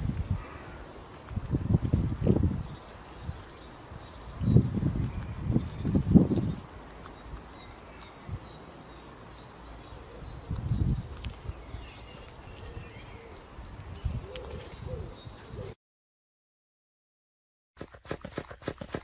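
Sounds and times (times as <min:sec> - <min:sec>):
songbirds chirping and twittering: 0:00.0 - 0:15.8.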